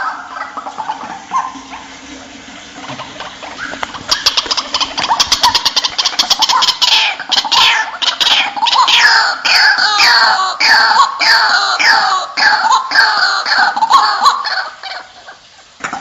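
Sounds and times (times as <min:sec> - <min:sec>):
waterhen calling: 0:00.0 - 0:16.0.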